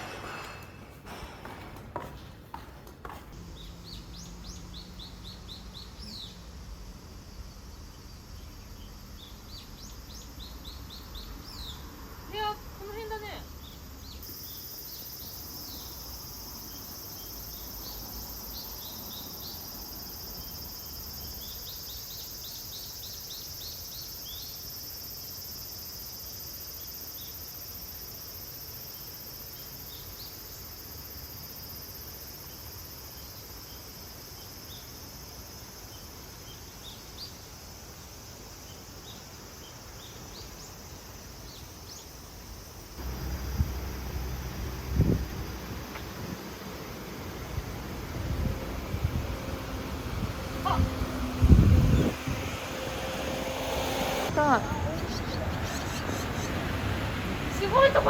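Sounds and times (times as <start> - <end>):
insects buzzing: 2.0 - 58.0.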